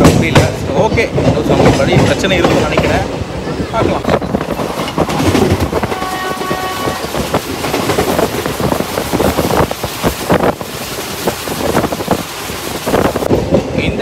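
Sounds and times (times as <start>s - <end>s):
train wheels clattering on track: 0.0s - 14.0s
wind rushing over microphone: 0.0s - 14.0s.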